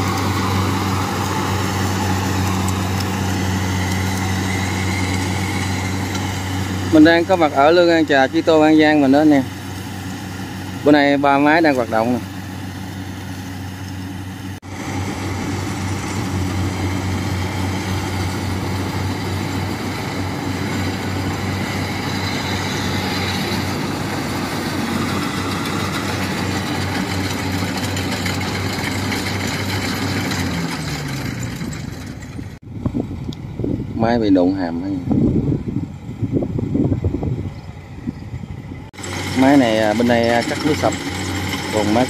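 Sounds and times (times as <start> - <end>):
rush of mechanical noise: 0.0 - 32.6, 38.7 - 42.0
combine harvester engine hum: 0.0 - 42.0.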